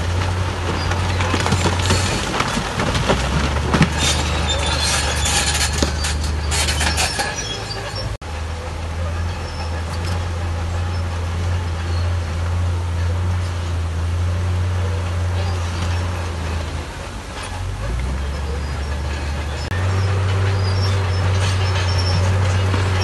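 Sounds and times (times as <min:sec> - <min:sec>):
diesel engine droning: 0:00.0 - 0:23.0
rattling and knocks: 0:00.0 - 0:23.0.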